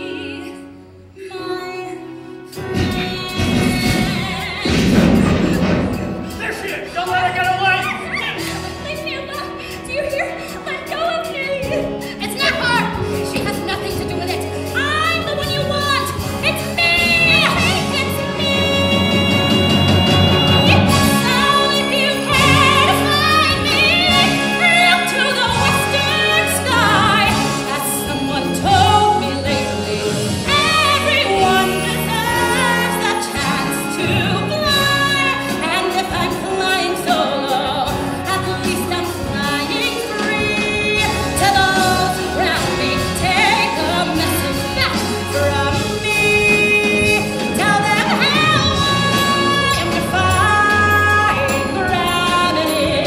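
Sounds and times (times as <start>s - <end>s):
pit orchestra playing: 0.0s - 53.0s.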